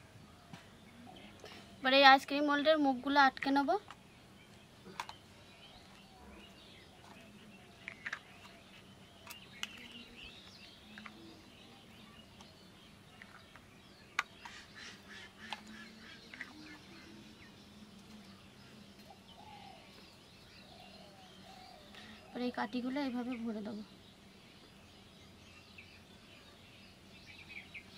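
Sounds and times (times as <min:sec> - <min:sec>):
birds chirping faintly: 0:00.0 - 0:27.9.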